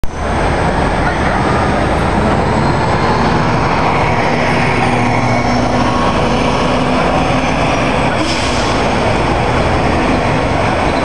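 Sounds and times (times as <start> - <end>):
bus engine droning: 0.0 - 11.0
street traffic noise: 0.0 - 11.0.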